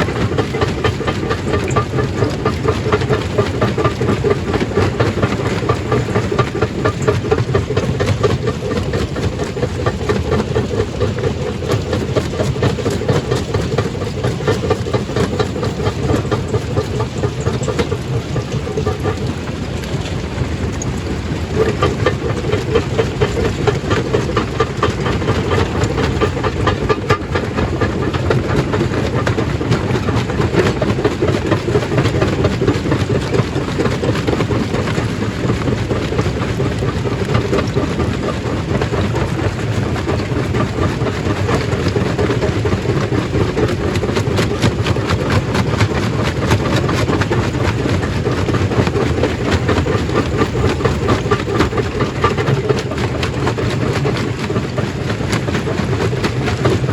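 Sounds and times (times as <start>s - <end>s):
stone crushing machine running: 0.0s - 56.9s.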